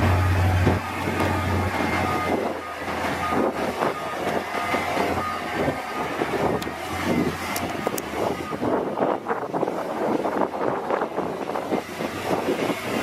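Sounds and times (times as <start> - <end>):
diesel engine running: 0.0 - 13.0
steel tracks clanking: 0.0 - 13.0.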